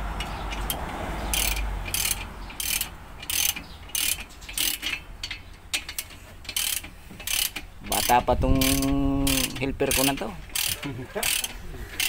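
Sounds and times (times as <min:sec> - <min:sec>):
ratchet wrench clicking: 0:00.2 - 0:12.0.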